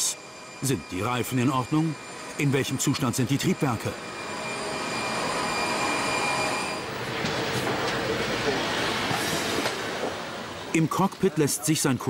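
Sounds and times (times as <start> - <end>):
aircraft turbine whine: 0.0 - 10.8.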